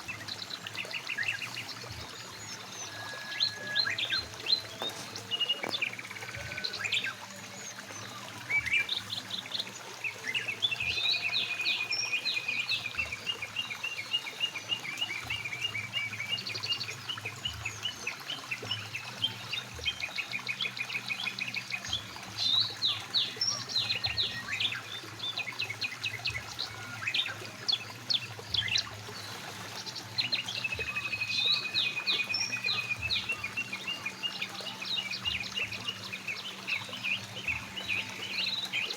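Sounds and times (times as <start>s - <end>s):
birds trilling and chirping: 0.0s - 38.9s
flowing stream: 0.0s - 38.9s.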